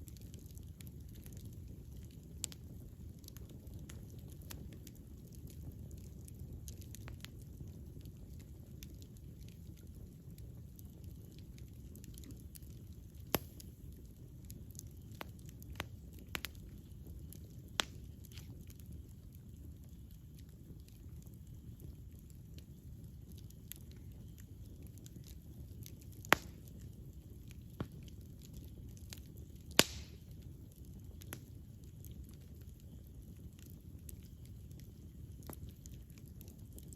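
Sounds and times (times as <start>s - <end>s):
campfire low rumble: 0.0s - 36.9s
fire crackles and pops: 0.0s - 36.9s.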